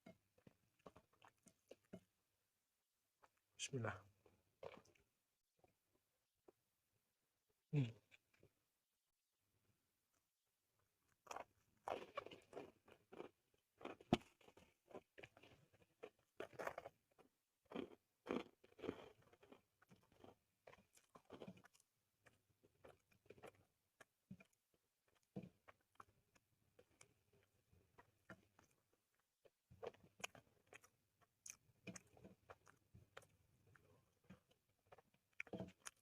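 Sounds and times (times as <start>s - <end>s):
person chewing and crunching food: 0.0s - 2.2s, 4.2s - 5.8s, 10.1s - 36.0s.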